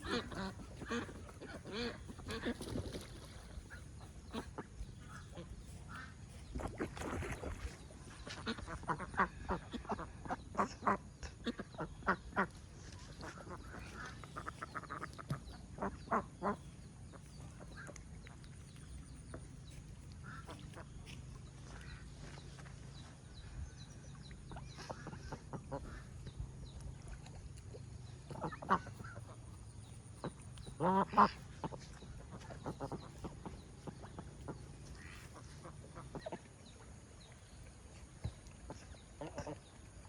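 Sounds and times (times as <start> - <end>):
ducks quacking: 0.0 - 27.4, 28.0 - 40.0.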